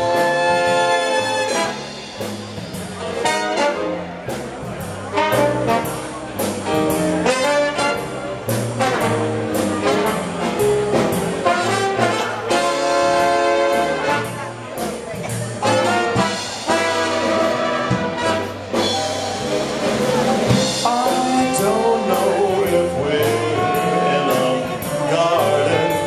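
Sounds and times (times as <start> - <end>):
dance orchestra playing: 0.0 - 26.0.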